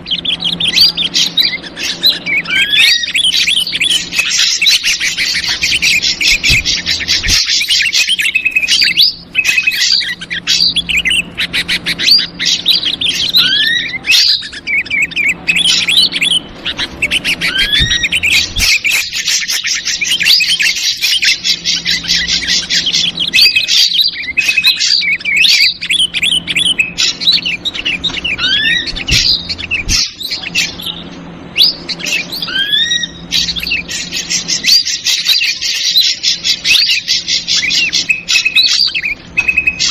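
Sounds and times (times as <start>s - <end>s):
bulbul chatter: 0.0s - 39.9s
drongo calls: 0.0s - 39.9s.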